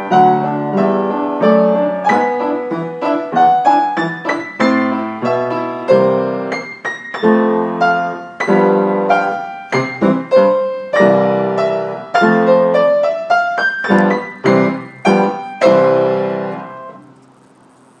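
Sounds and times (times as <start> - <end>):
piano chords: 0.0 - 17.5.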